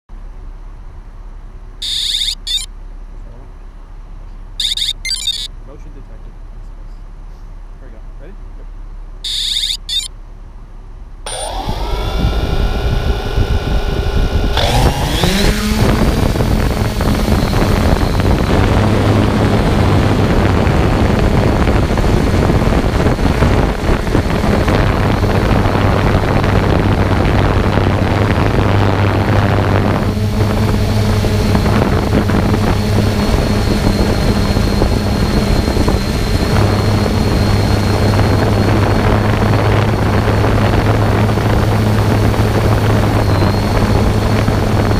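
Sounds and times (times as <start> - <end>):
drone motors buzzing: 1.8 - 2.7, 4.6 - 5.5, 9.3 - 10.1, 11.3 - 44.9.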